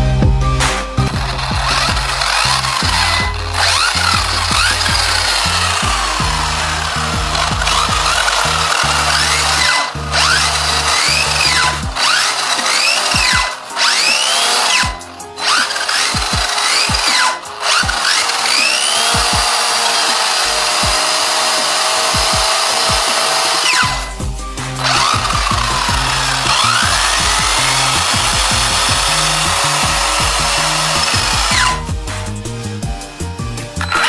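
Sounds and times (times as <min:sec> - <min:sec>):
background music: 0:00.0 - 0:34.0
handheld power tool grinding: 0:01.0 - 0:34.0.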